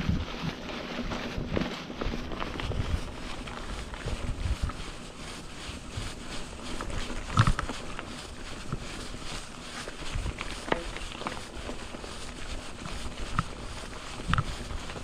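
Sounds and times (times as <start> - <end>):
bike rattling over bumps: 0.0 - 15.0
bike tyres on dirt trail: 0.0 - 15.0.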